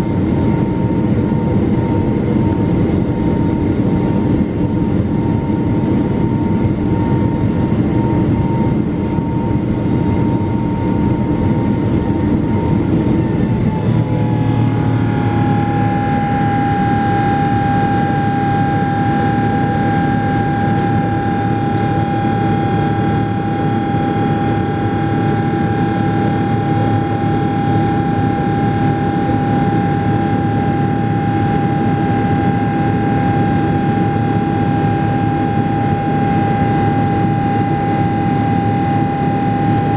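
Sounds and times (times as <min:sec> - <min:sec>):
engine fan whine: 0:00.0 - 0:39.9
jet engines and airflow rushing: 0:00.0 - 0:39.9.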